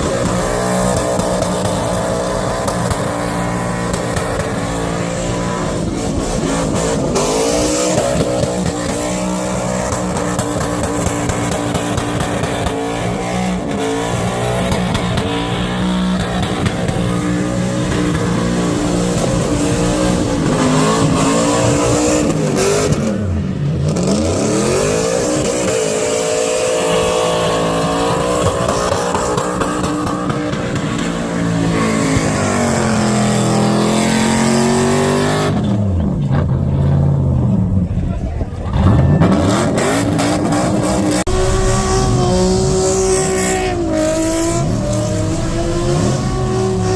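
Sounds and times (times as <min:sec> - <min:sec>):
car engine revving hard: 0:00.0 - 0:36.5, 0:38.8 - 0:46.9.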